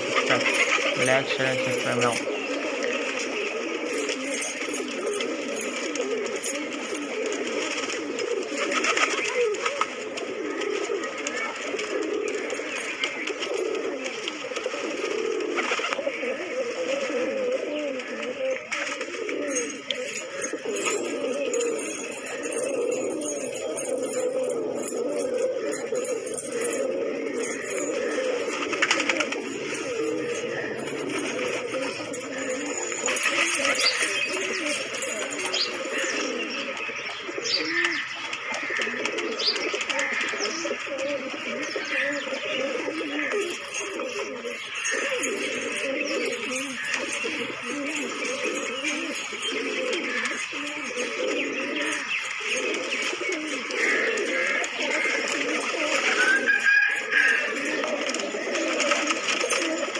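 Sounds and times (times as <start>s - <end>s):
pigeons cooing: 0.0s - 59.9s.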